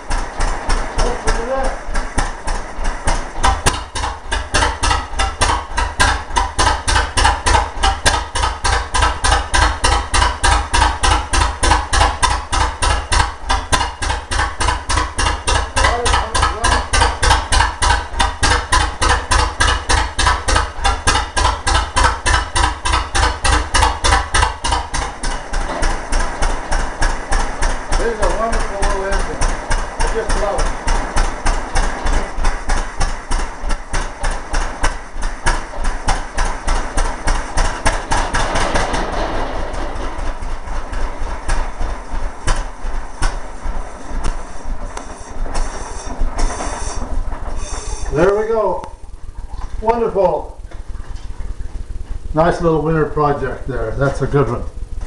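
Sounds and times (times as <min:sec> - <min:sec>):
marine engine idling: 0:00.0 - 0:55.0.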